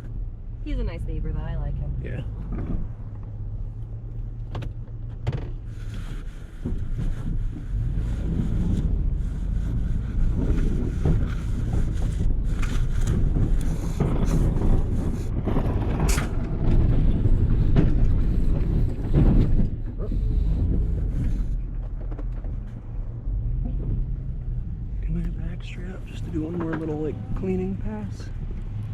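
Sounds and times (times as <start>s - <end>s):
plow scraping and knocking: 0.0s - 28.9s
truck engine low rumble: 0.0s - 28.9s.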